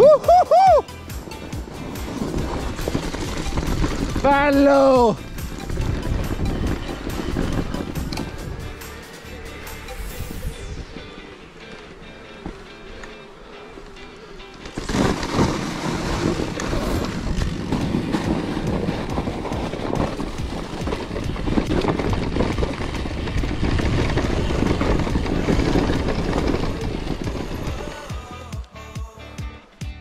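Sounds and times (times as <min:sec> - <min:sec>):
mountain bike rattling over rough ground: 0:00.0 - 0:28.5.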